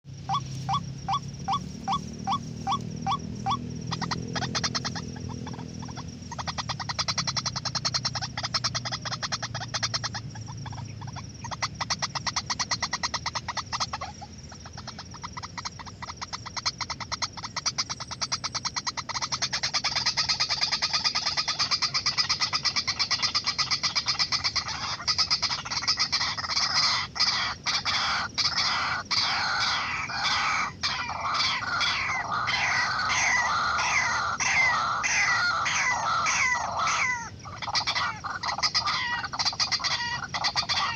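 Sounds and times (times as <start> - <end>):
waterhen croaking calls: 0.1 - 40.9.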